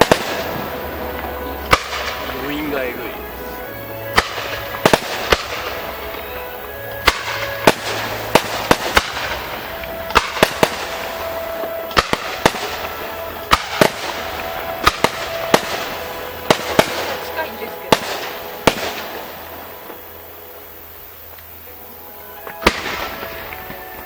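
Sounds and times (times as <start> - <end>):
fireworks bangs: 0.0 - 24.0
music playing: 0.0 - 24.0.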